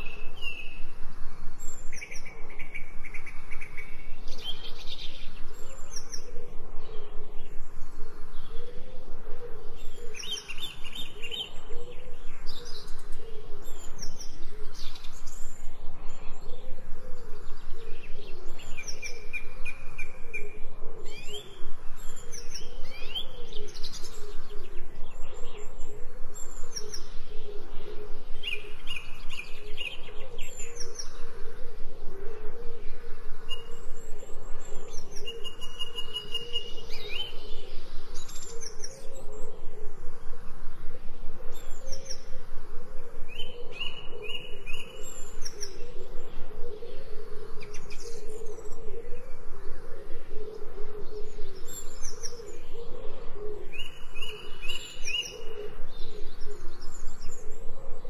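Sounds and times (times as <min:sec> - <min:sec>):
birds chirping and trilling: 0:00.0 - 0:58.0
low wavering drone: 0:00.0 - 0:58.0.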